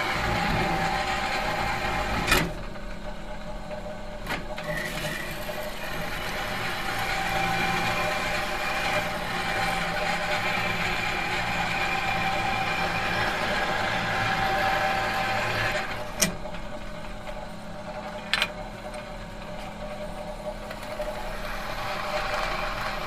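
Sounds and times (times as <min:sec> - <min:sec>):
metalworking machine humming: 0:00.0 - 0:23.0.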